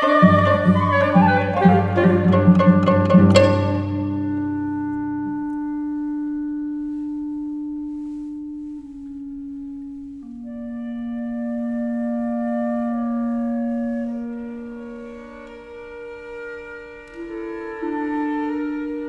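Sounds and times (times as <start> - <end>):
slow classical music: 0.0 - 19.0.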